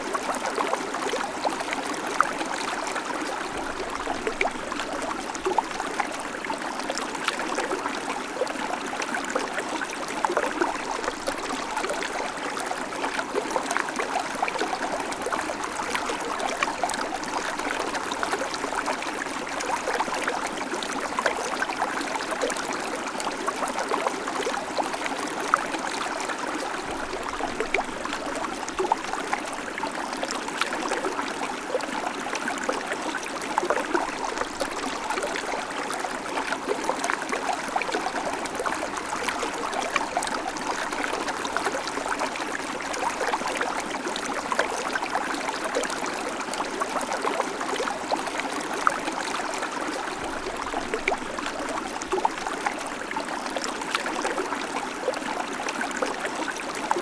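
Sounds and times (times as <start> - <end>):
creek water running over stones: 0.0 - 57.0.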